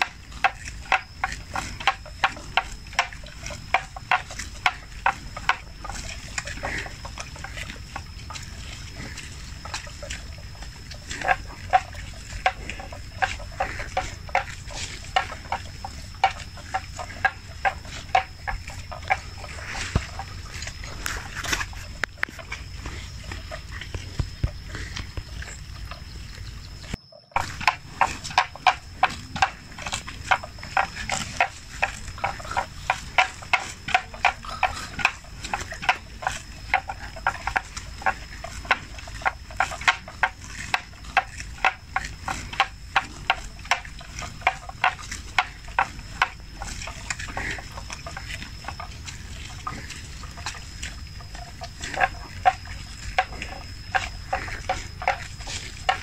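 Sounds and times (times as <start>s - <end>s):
buffalo tearing and crunching grass: 0.0s - 56.0s.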